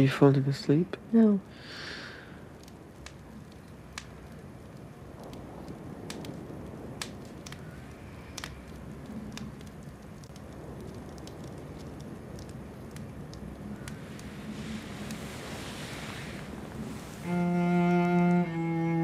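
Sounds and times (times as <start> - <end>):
low background rumble: 0.0 - 19.0
faint clicks and crackles: 1.4 - 19.0.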